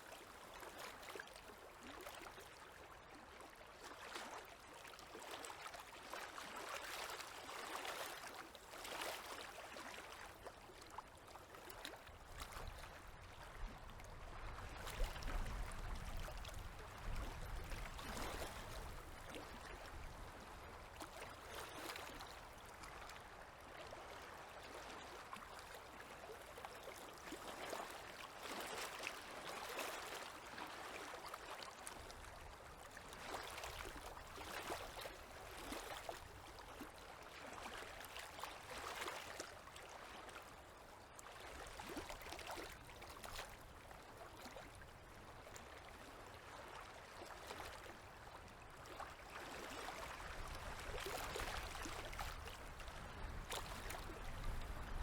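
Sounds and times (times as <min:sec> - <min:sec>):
small waves lapping at shore: 0:00.0 - 0:55.0.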